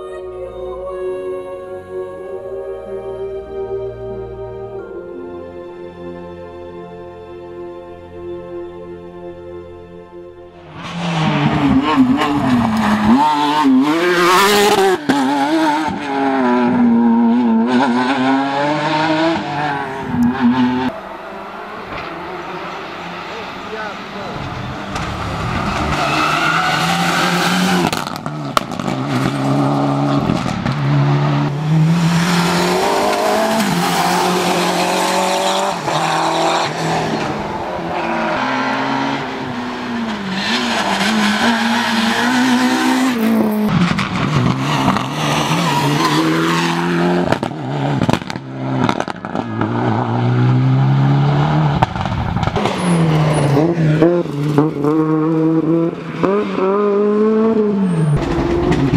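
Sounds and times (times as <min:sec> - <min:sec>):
rally car engines revving: 0:10.6 - 0:58.9.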